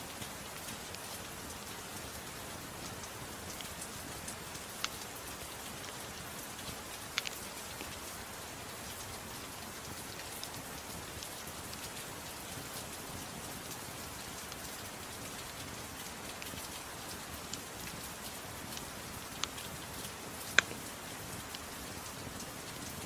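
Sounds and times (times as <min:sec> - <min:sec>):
soft rain falling: 0:00.0 - 0:23.0
wood fire crackles: 0:00.0 - 0:23.0.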